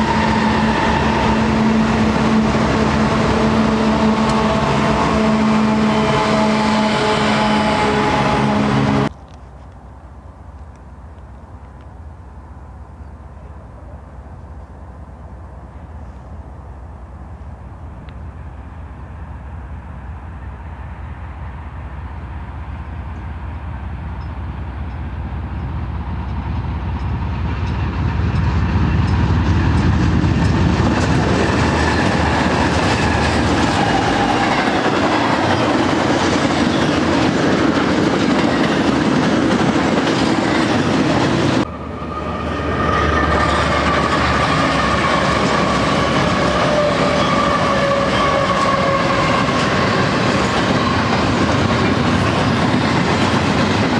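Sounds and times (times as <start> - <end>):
diesel locomotives whining: 0.0 - 9.1, 10.5 - 53.9
freight train rumble: 0.0 - 53.9.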